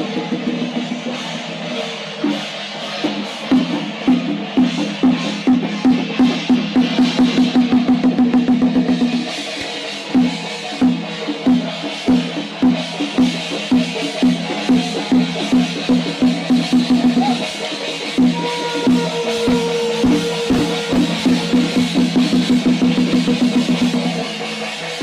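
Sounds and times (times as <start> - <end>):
pitched drum strokes and rolls: 0.0 - 25.0.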